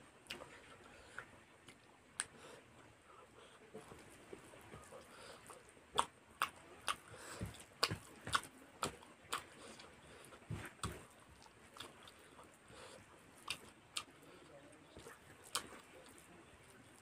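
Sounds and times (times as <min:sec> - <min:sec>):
chewing: 0:00.2 - 0:02.6, 0:03.4 - 0:17.0.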